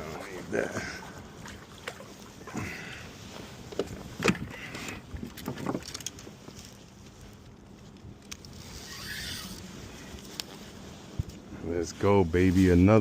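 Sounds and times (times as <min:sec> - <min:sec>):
water sloshing against boat hull: 0:00.0 - 0:11.6.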